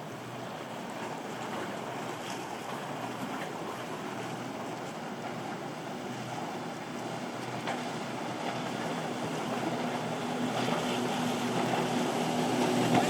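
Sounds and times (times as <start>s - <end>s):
motorboat engines droning: 0.0s - 13.0s
wash of waves: 0.0s - 13.0s.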